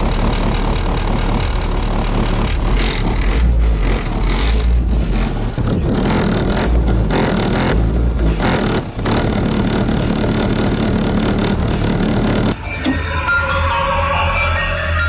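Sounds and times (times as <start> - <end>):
bass-heavy music from subwoofers: 0.0 - 15.0.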